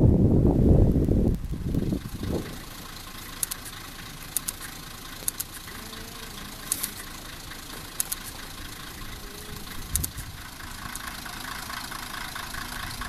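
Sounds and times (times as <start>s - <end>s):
diesel engine idling: 0.5s - 13.0s
sharp light ticks: 1.0s - 13.0s.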